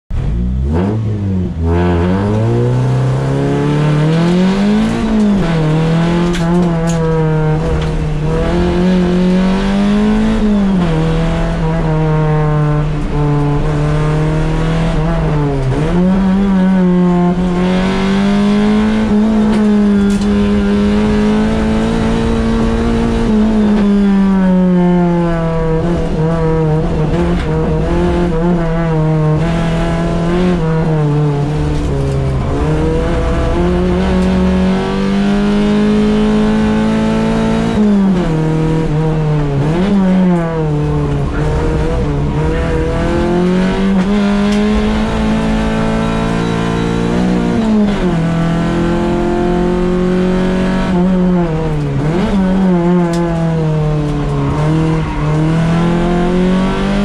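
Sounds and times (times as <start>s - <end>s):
car engine revving: 0.1s - 57.0s.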